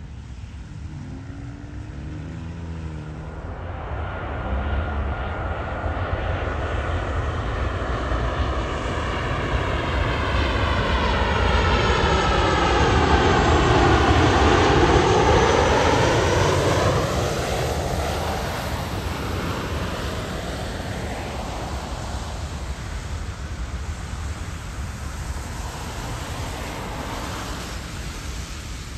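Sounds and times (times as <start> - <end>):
airliner engine noise: 0.0 - 28.9.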